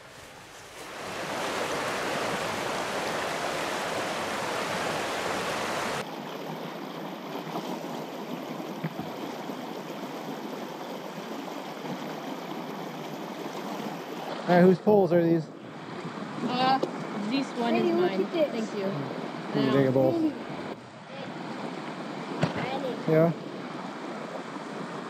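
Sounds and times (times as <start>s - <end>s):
creek rushing over rocks: 0.0s - 25.0s.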